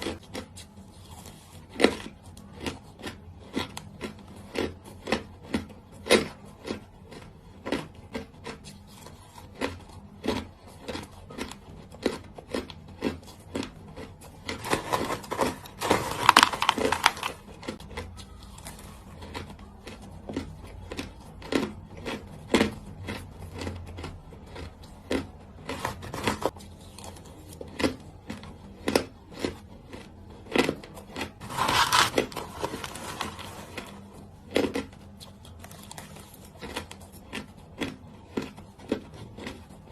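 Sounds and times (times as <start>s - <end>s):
ice cubes being chewed: 0.0s - 39.9s.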